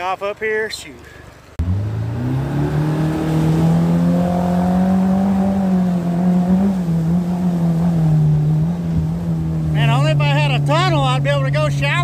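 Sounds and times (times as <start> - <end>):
jet boat motor revving: 1.6 - 12.0.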